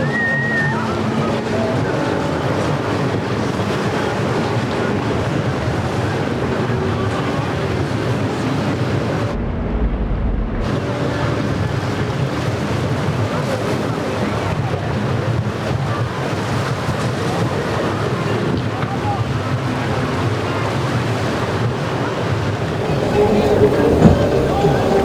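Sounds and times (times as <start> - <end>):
boat engines running: 0.0 - 9.4, 10.6 - 25.0
waves breaking: 0.0 - 25.0
wind buffeting microphone: 0.0 - 25.0.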